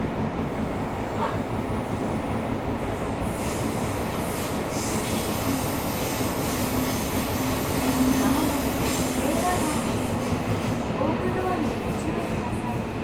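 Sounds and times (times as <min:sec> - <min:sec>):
subway wheels rumbling on rail: 0:00.0 - 0:13.0.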